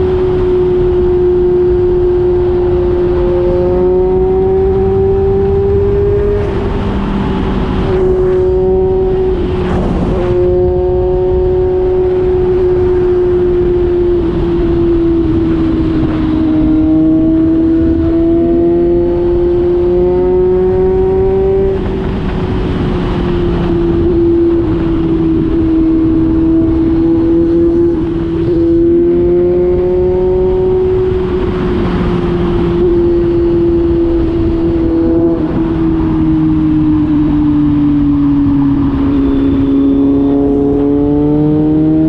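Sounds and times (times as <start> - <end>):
motorcycle engine running high: 0.0 - 42.0.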